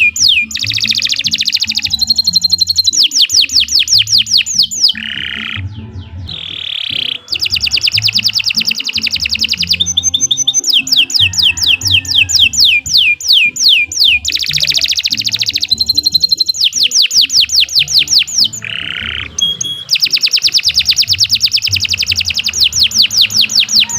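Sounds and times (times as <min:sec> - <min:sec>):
canary singing: 0:00.0 - 0:23.9.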